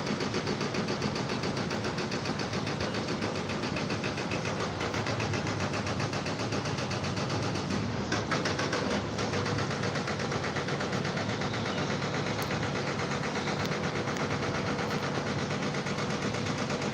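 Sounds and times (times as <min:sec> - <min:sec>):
machinery running with mechanical pulsing: 0:00.0 - 0:16.9.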